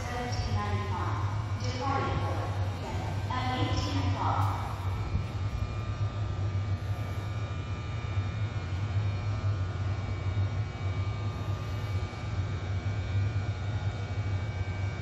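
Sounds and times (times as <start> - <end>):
train engine low hum: 0.0 - 15.0.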